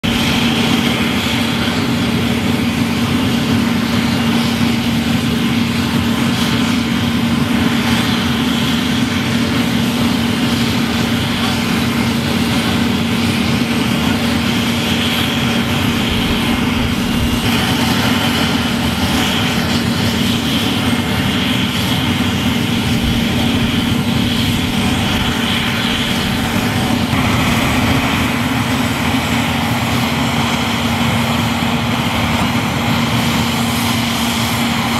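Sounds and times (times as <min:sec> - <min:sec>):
hovercraft turbine drone: 0:00.0 - 0:34.9.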